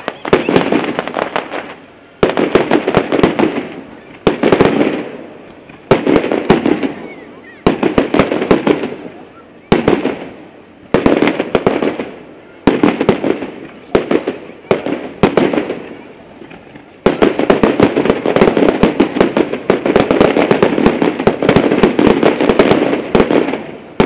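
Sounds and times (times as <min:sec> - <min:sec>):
fireworks bursting with sharp bangs: 0:00.0 - 0:24.0
fireworks crackling: 0:00.0 - 0:24.0.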